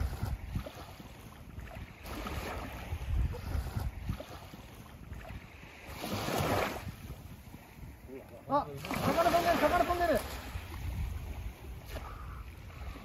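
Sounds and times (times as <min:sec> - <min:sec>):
small waves washing onto sand: 0:00.0 - 0:13.0
wind buffeting microphone: 0:00.0 - 0:13.0.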